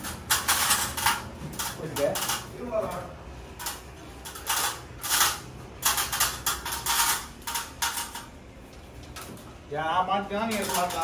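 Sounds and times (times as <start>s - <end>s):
sheet metal scraping and rattling: 0.0s - 8.4s, 10.2s - 11.0s.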